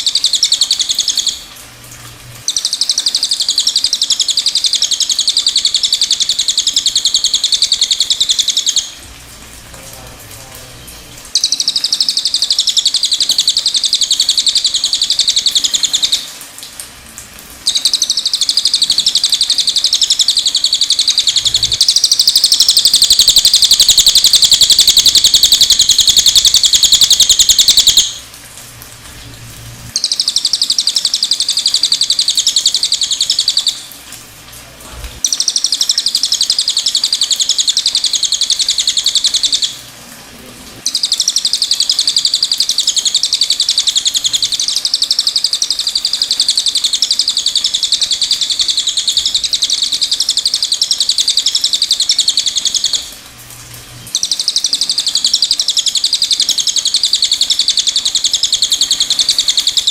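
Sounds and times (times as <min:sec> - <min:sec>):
bird high-pitched trilling: 0:00.0 - 0:01.5, 0:02.4 - 0:09.0, 0:11.3 - 0:16.3, 0:17.6 - 0:28.2, 0:29.9 - 0:33.9, 0:35.2 - 0:39.8, 0:40.8 - 0:53.1, 0:54.1 - 0:59.9.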